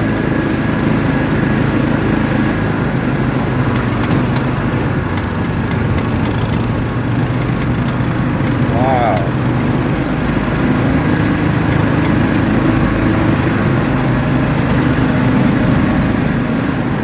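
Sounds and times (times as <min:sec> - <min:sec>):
atv engine running under load: 0:00.0 - 0:17.0.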